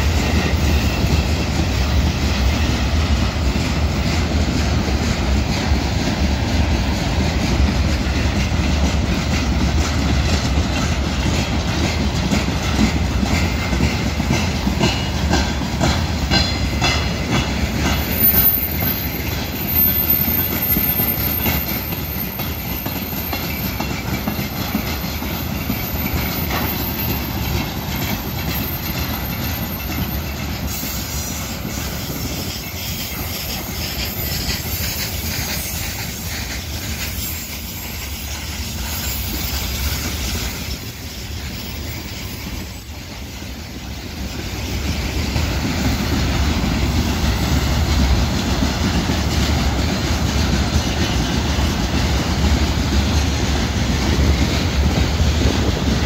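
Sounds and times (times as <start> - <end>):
train wagons rumbling: 0.0 - 56.0
train wheel squeal: 0.0 - 56.0
wheels clickety-clack on rail joints: 0.0 - 56.0.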